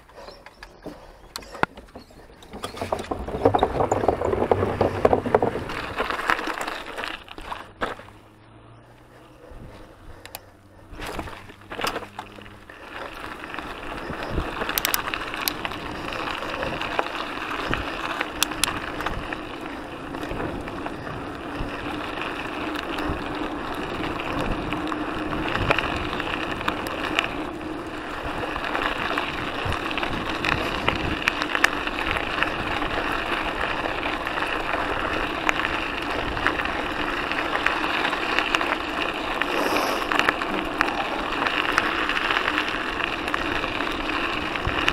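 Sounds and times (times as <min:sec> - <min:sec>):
bike clicks and rattles: 0:00.0 - 0:44.9
bike tyres crunching on gravel: 0:01.5 - 0:44.9.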